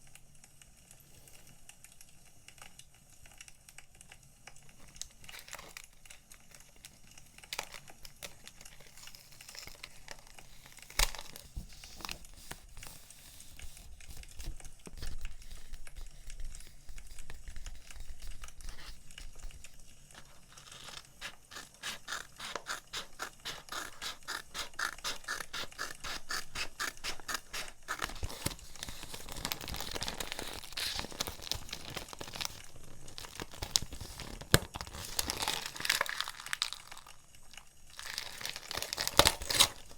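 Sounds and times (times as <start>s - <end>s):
paper crinkling and rustling: 4.7s - 39.9s.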